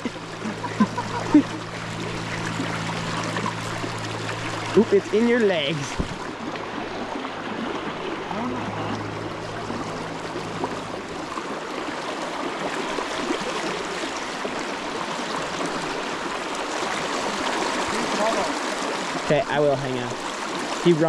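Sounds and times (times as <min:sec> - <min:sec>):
low steady hum: 0:00.0 - 0:21.0
river current rushing and splashing: 0:00.0 - 0:21.0.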